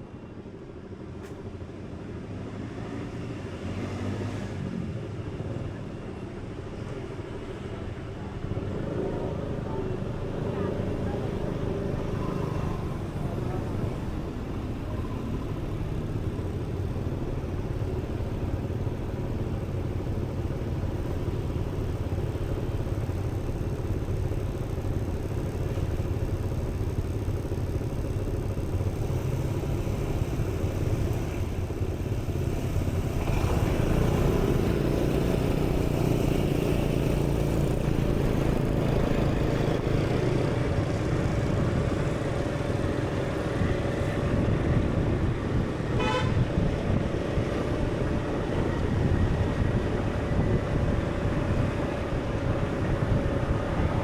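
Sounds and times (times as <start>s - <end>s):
traffic rumble: 0.0s - 54.0s.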